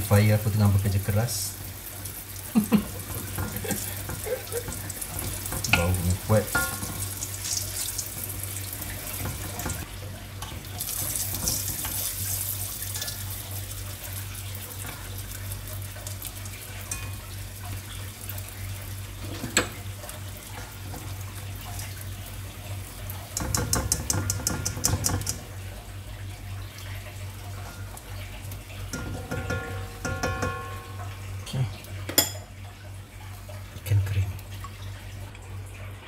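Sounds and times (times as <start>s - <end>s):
tap water running into sink: 0.0s - 35.5s.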